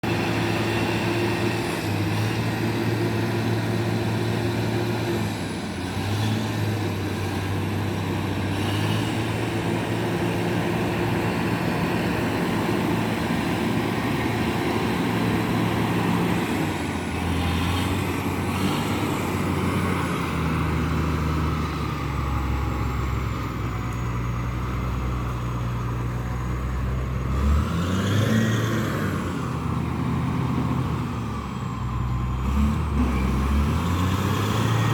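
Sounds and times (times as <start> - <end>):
heavy diesel engine revving: 0.0 - 34.9.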